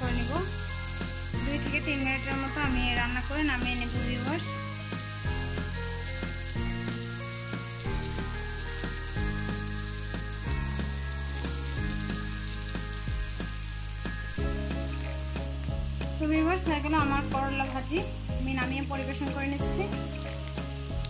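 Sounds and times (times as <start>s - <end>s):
background music: 0.0s - 21.0s
food sizzling in oil: 0.0s - 21.0s.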